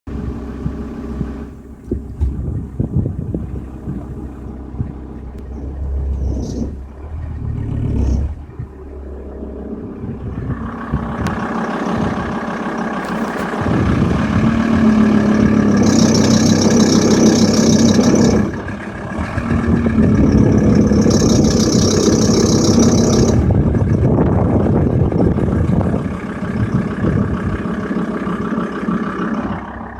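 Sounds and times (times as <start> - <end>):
diesel engine idling and pulling: 0.0 - 29.9.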